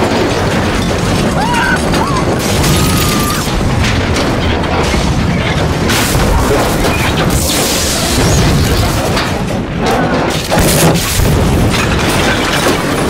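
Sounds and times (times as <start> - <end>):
crashing surges: 0.0 - 13.0
explosion rumble and burning: 0.0 - 13.0.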